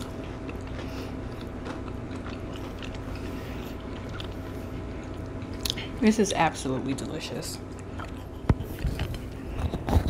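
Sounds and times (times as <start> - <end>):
crunchy chewing: 0.0 - 5.9, 7.6 - 10.0
low steady hum: 0.0 - 10.0.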